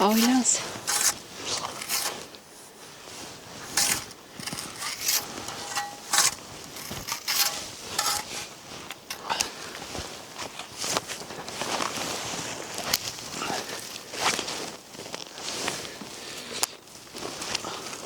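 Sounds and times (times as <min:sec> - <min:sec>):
footsteps crunching in snow: 0:00.0 - 0:09.2, 0:09.8 - 0:16.1.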